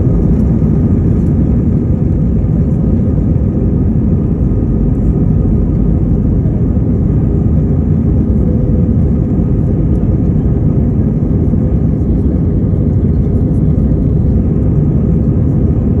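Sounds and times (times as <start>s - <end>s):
jet engines at takeoff thrust: 0.0s - 16.0s.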